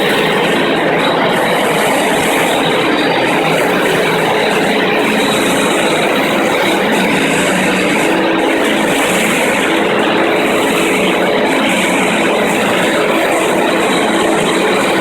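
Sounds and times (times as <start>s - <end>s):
concrete floor grinder: 0.0s - 15.0s.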